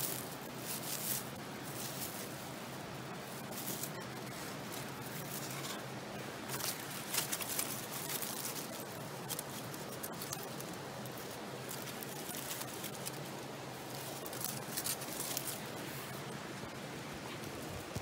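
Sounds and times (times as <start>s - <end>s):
short rustles and crackles: 0.0s - 2.6s, 3.2s - 16.2s.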